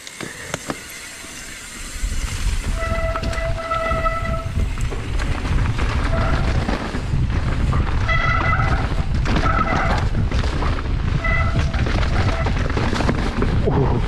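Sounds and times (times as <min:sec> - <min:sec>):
bike tyres rattling over roots: 0:00.0 - 0:14.0
wind noise: 0:01.8 - 0:14.0.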